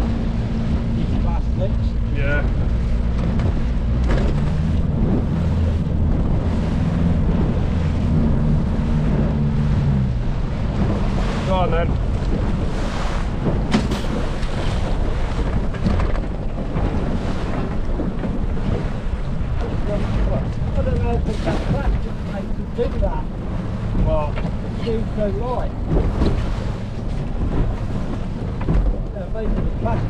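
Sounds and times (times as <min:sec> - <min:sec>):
outboard motor running: 0:00.0 - 0:30.0
water rushing past hull: 0:00.0 - 0:30.0
wind buffeting microphone: 0:00.0 - 0:30.0.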